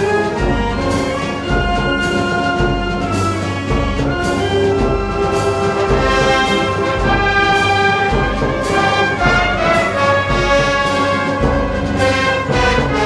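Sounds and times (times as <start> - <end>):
bass drum beat: 0.0 - 13.0
brass band playing: 0.0 - 13.0.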